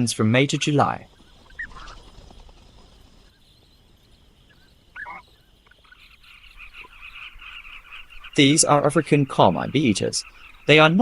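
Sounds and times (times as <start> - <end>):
faint natural background: 0.0 - 11.0.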